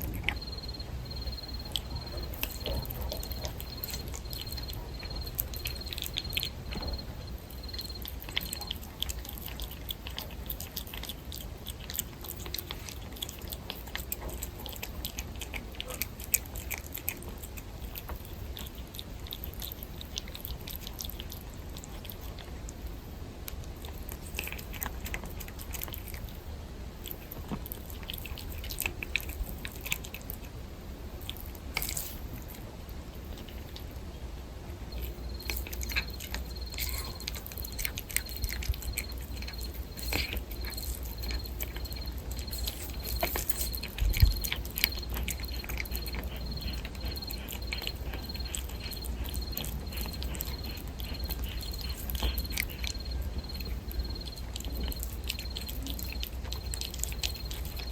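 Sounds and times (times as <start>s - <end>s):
cat chewing crunchy food: 0.0s - 57.9s.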